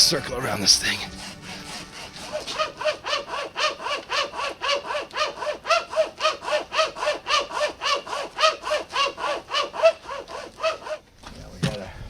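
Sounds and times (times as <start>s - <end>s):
pocket chainsaw rasping through wood: 0.0s - 11.0s.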